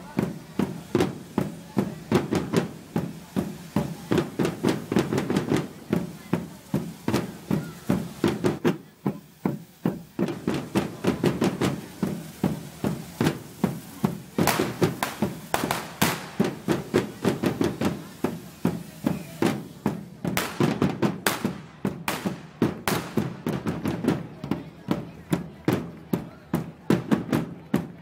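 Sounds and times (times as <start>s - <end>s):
firecrackers cracking: 0.0s - 28.0s
firework fountains hissing: 0.0s - 28.0s
loud knocking beat: 0.2s - 27.9s.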